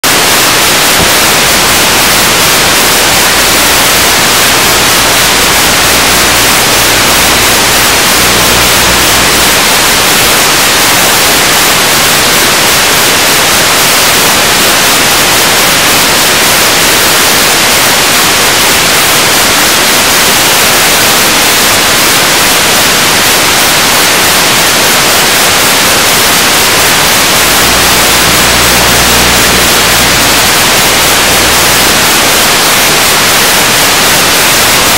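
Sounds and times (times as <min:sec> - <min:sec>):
loud static hiss: 0:00.0 - 0:34.9.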